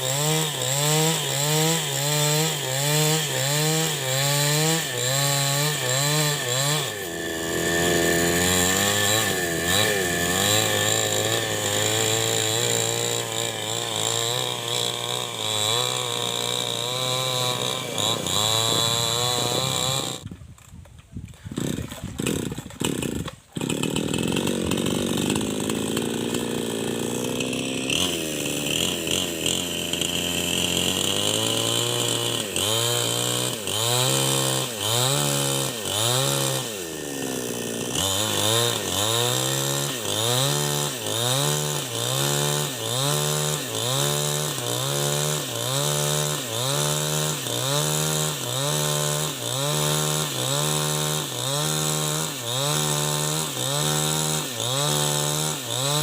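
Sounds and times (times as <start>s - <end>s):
chainsaw cutting through log: 0.0s - 20.7s, 21.3s - 56.0s.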